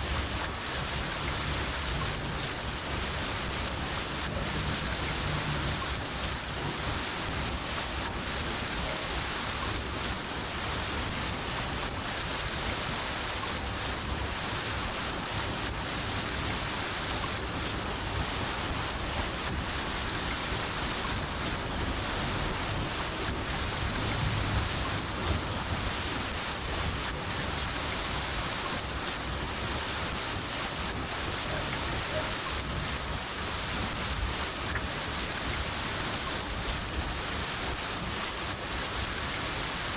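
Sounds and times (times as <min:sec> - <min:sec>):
cricket chirping: 0:00.0 - 0:39.9
steady rain hiss: 0:00.0 - 0:39.9.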